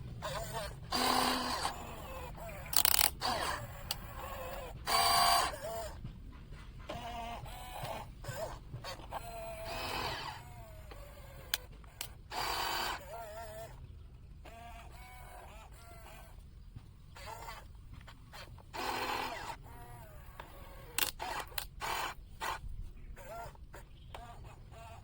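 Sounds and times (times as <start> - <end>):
small electric motors whirring: 0.0 - 25.0.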